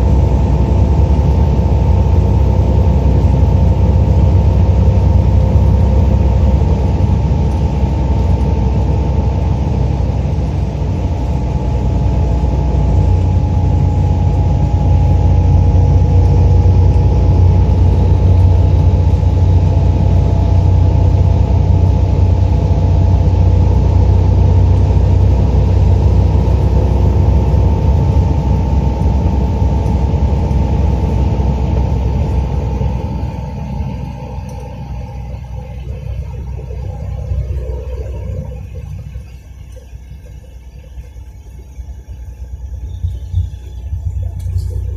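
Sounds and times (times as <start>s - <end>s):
faint whine: 0.0s - 44.9s
vehicle engine and road drone: 0.0s - 44.9s.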